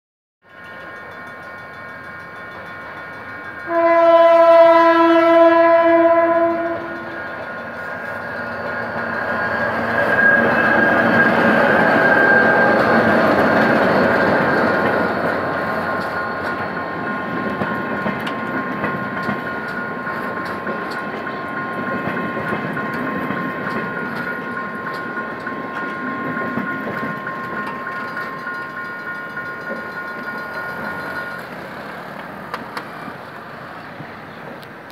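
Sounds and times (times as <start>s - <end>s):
diesel locomotive passing: 0.4s - 34.9s
train wheels clicking over rail joints: 6.9s - 34.9s.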